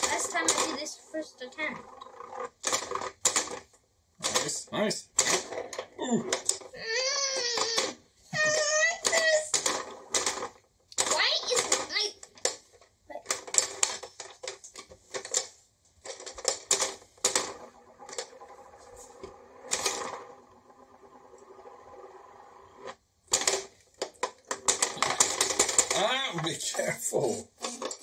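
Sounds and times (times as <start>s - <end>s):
plastic toy clicking and rattling: 0.0s - 21.9s, 22.8s - 28.0s
quiet steady whir: 0.0s - 28.0s.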